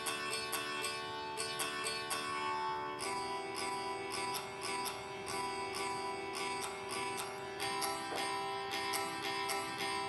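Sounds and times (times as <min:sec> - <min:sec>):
acoustic guitar chords strummed: 0:00.0 - 0:10.0.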